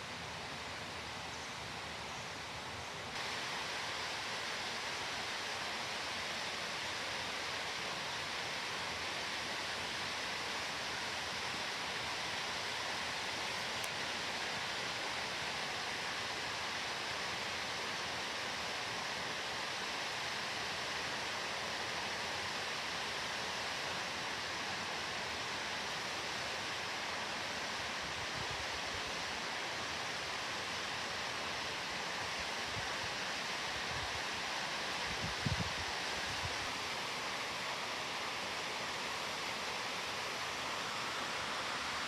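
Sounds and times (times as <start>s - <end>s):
stream and waterfall rushing: 0.0s - 42.0s.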